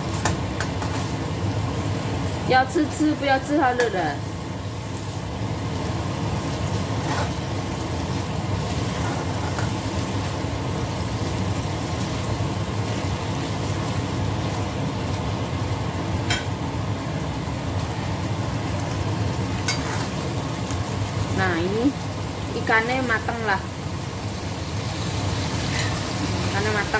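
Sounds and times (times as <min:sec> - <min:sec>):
fish sizzling in a frying pan: 0:00.0 - 0:26.9.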